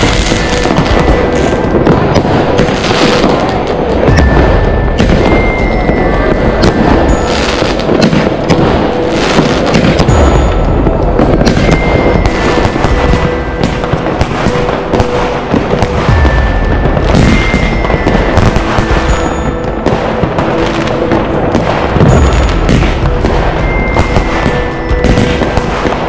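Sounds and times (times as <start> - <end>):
background music: 0.0 - 26.0
firework bangs and crackling: 0.0 - 26.0.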